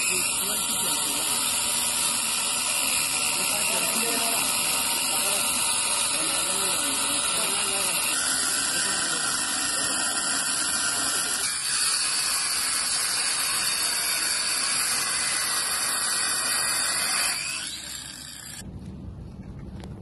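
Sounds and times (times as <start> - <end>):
angle grinder cutting metal: 0.0 - 18.6.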